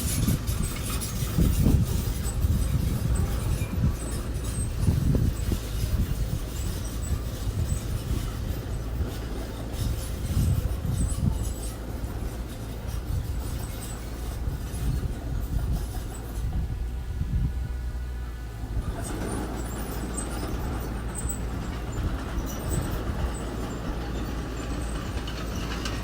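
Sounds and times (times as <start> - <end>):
heavy machinery engine rumbling: 0.0 - 26.0.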